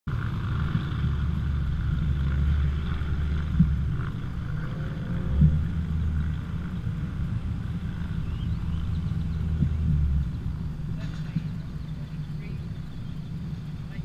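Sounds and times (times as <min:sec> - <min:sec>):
car engine low rumble: 0:00.1 - 0:14.0.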